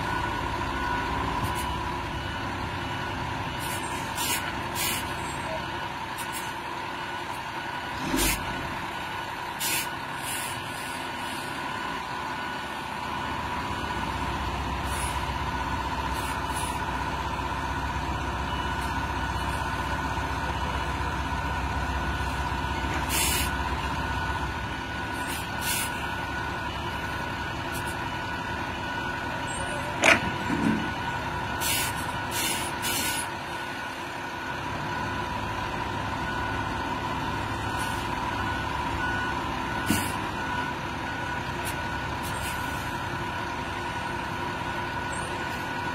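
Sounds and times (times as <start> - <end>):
truck engines and winches whining: 0.0 - 45.9.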